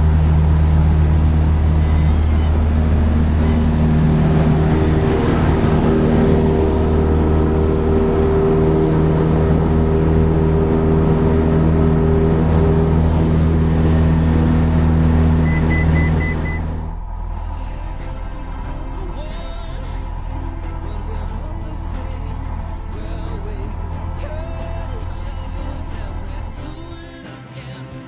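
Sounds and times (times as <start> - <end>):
propeller plane engine: 0.0 - 27.0.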